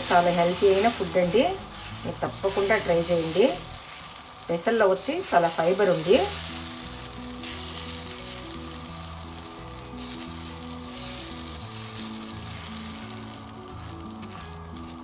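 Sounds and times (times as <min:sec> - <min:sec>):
batter sizzling on a griddle: 0:00.0 - 0:15.0
music of held low notes: 0:00.0 - 0:15.0.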